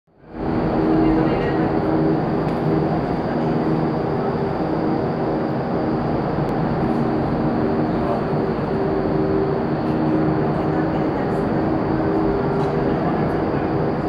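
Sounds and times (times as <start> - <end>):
fan hum: 0.1 - 14.0.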